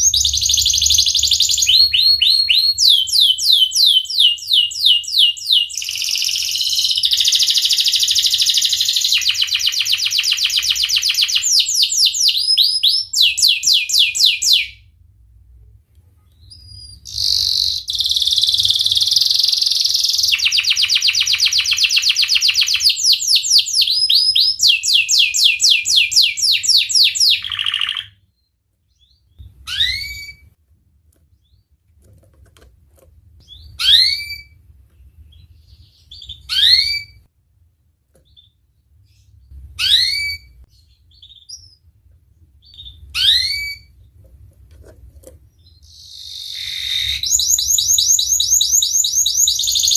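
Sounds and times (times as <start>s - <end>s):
canary singing trills: 0.0s - 14.8s, 16.3s - 30.5s, 33.4s - 34.6s, 35.2s - 37.3s, 38.2s - 41.9s, 42.6s - 44.1s, 45.5s - 49.9s
canary chirps: 0.0s - 14.9s, 16.2s - 31.8s, 33.4s - 37.3s, 38.1s - 44.3s, 45.2s - 49.9s.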